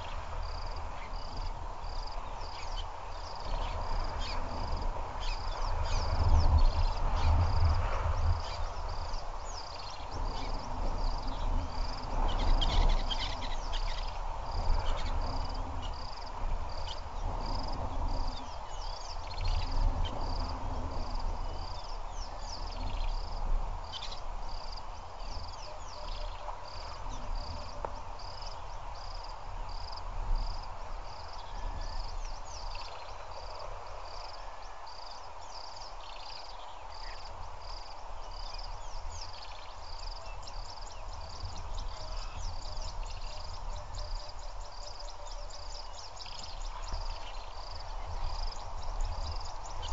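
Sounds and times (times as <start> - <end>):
insect chirping: 0.0 - 49.9
low rumbling outdoor noise: 0.0 - 49.9.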